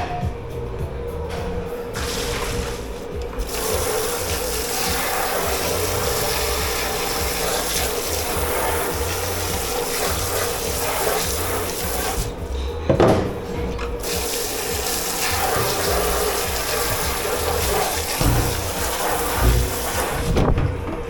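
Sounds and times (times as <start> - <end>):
kitchen machinery hum: 0.0 - 21.0
water running into a sink: 1.9 - 20.6.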